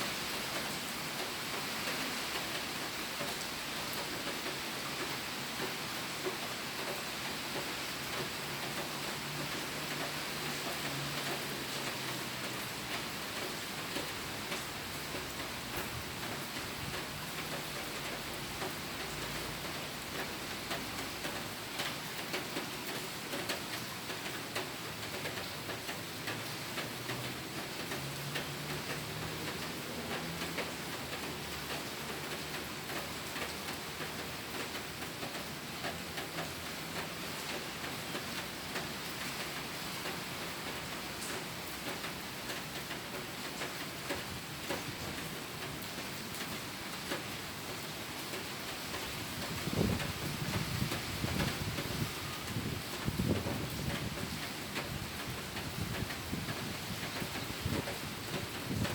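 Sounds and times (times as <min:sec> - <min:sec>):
rain drops tapping: 0:00.3 - 0:58.9.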